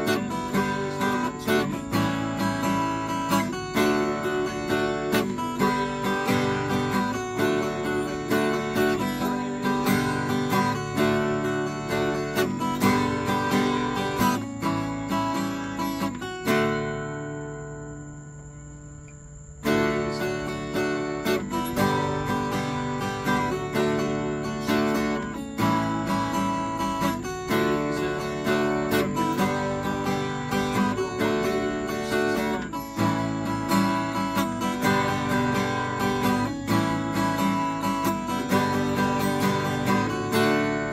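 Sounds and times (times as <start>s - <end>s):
acoustic guitar strumming chords: 0.0s - 40.9s.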